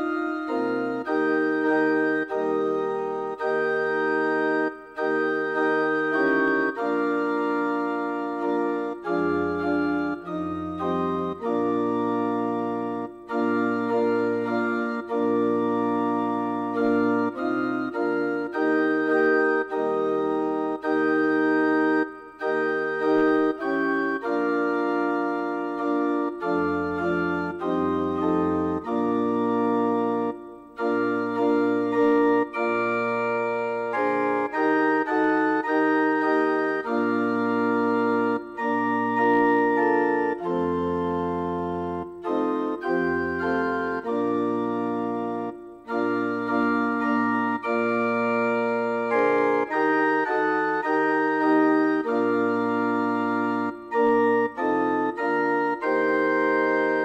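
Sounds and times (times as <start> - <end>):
church organ playing chords: 0.0 - 57.0.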